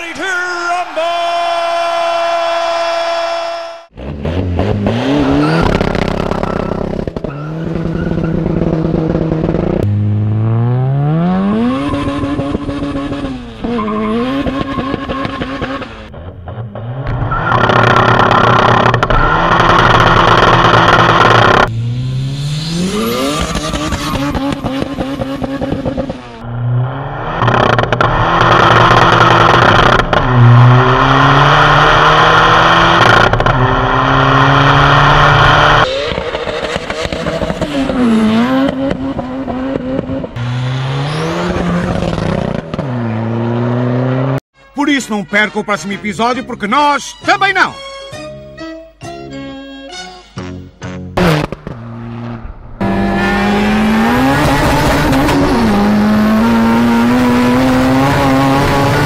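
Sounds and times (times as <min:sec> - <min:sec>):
car engine accelerating hard: 0:03.8 - 0:44.4, 0:51.0 - 0:59.0.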